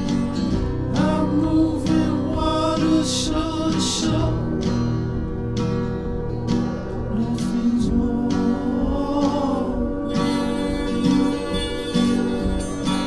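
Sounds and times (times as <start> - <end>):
person singing: 0.0 - 4.6, 7.1 - 13.0
acoustic guitar: 0.0 - 13.0.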